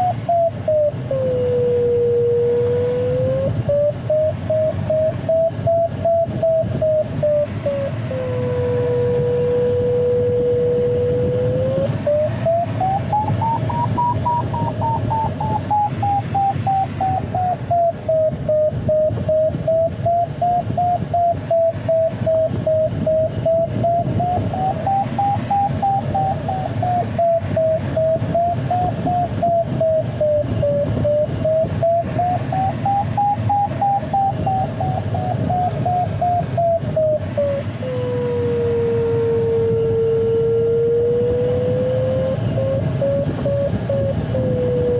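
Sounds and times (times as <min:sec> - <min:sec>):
airflow rushing in cockpit: 0:00.0 - 0:44.9
variometer beeping: 0:00.0 - 0:44.9.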